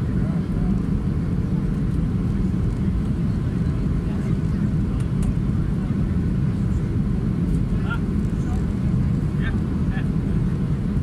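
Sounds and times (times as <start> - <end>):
airplane cabin engine roar: 0.0 - 11.0.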